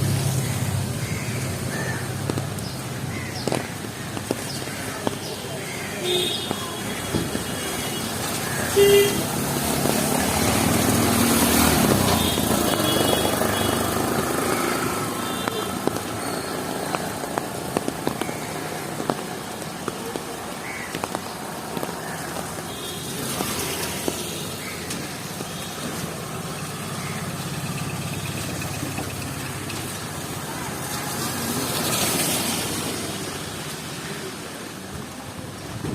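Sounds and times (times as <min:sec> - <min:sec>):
wet traffic: 0:00.0 - 0:35.9.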